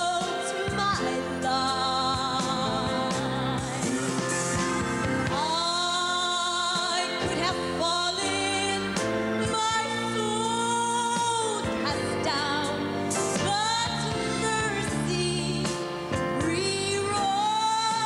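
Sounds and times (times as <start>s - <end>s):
woman singing gospel song: 0.0s - 4.4s, 5.2s - 15.7s, 16.4s - 18.0s
instrumental backing music: 0.0s - 18.0s.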